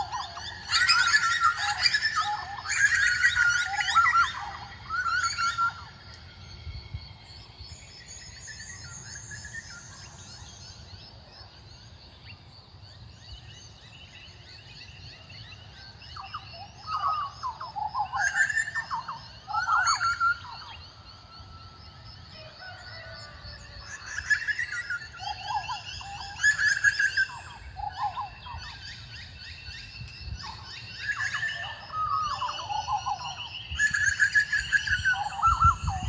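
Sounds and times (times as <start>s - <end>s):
faint high chirping: 0.0s - 36.0s.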